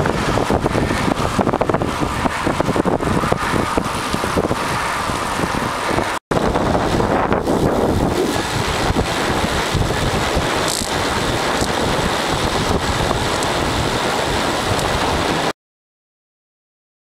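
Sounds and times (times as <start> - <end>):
wind buffeting microphone: 0.0 - 15.5.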